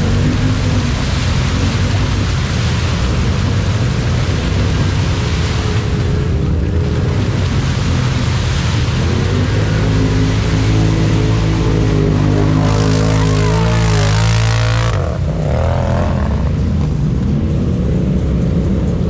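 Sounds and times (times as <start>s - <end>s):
engine running at high revs: 0.0s - 19.0s.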